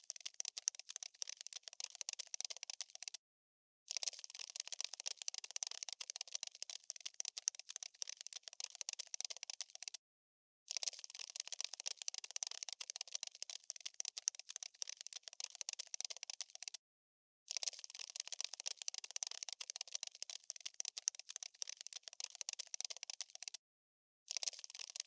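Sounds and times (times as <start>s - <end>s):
scurrying insect clicks and scratches: 0.0s - 3.2s, 3.9s - 10.0s, 10.7s - 16.8s, 17.5s - 23.6s, 24.3s - 25.0s.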